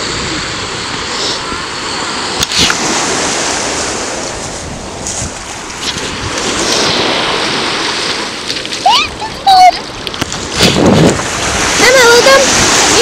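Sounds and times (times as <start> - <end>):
ocean surf washing onto beach: 0.0 - 13.0
wind buffeting microphone: 0.0 - 13.0.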